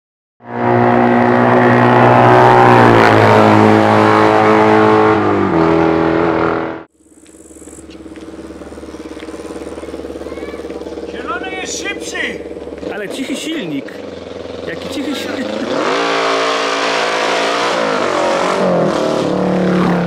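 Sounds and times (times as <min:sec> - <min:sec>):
motorcycle approaching at low revs: 0:00.4 - 0:20.0
motorcycle engine revving high: 0:00.4 - 0:20.0.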